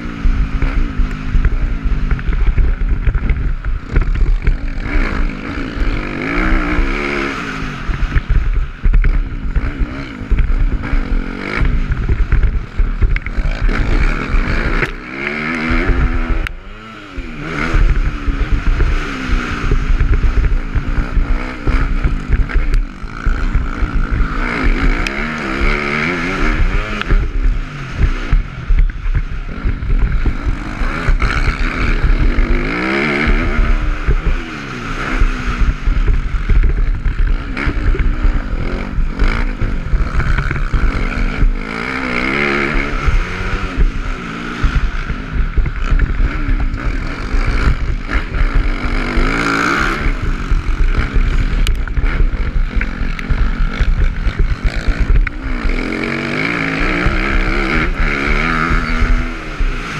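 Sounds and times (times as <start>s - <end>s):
dirt bike engine revving: 0.0s - 59.9s
wind rumbling on microphone: 0.0s - 59.9s.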